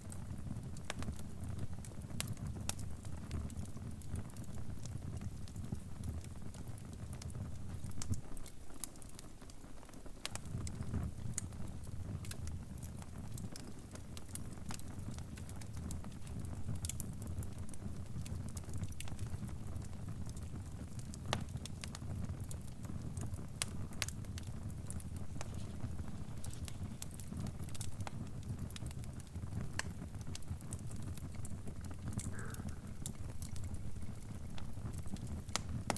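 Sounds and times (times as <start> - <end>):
fire crackling with pops: 0.0 - 35.9.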